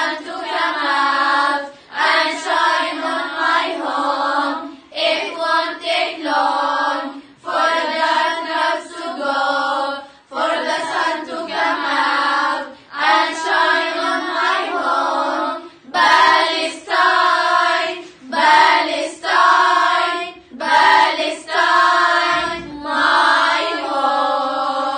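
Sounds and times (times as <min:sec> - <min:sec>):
girls singing in unison: 0:00.0 - 0:24.9.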